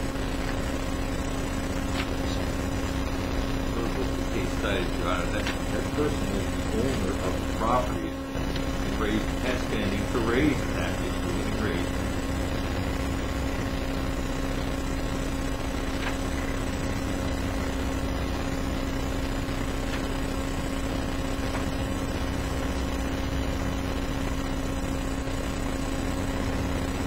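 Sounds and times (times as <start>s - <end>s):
electrical hum and hiss: 0.0s - 27.0s.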